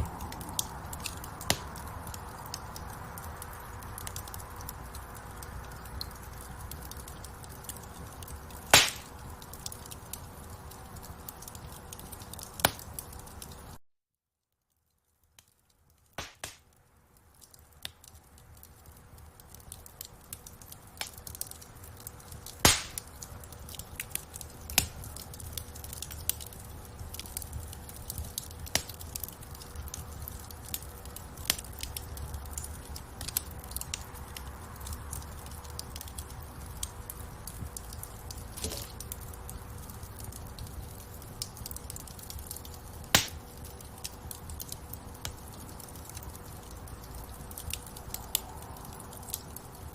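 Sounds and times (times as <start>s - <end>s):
low rumble of flames: 0.0s - 13.8s, 15.0s - 49.9s
wood fire crackling: 0.0s - 13.8s, 14.6s - 49.9s.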